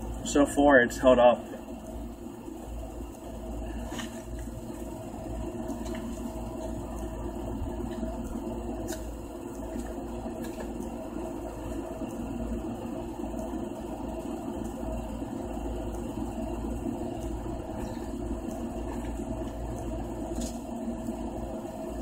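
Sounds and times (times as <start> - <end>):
faint steady whine: 0.0 - 22.0
low mechanical hum: 0.0 - 22.0.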